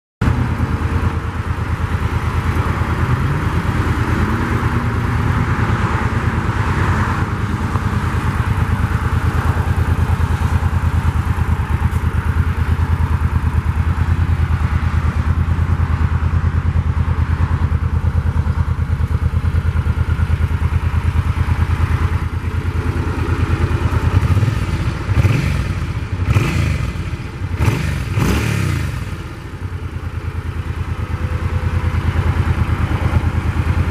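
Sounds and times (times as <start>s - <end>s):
motorcycle engine idling and revving: 0.2s - 33.9s.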